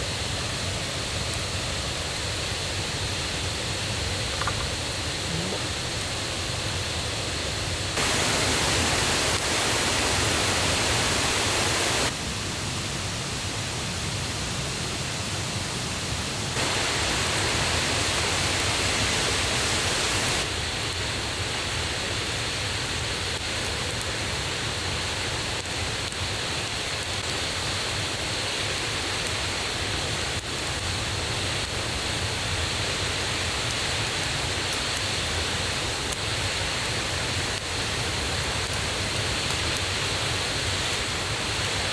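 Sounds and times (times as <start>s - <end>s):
rushing stream and waterfall: 0.0s - 41.9s.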